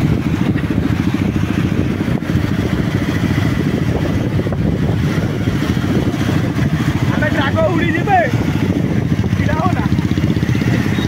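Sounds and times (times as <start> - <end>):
motorcycle engine rumble: 0.0 - 11.0
other motorcycles nearby: 0.0 - 11.0.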